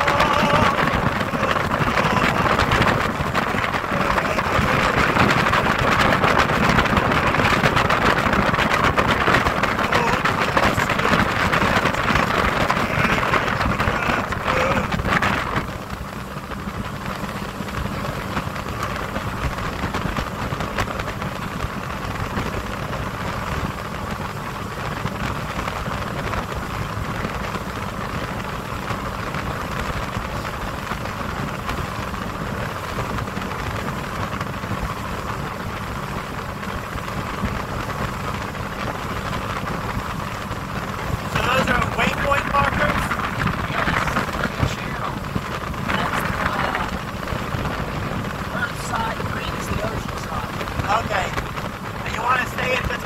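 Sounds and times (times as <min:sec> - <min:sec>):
motorboat engine running: 0:00.0 - 0:53.0
rush of wind and water: 0:00.0 - 0:53.0.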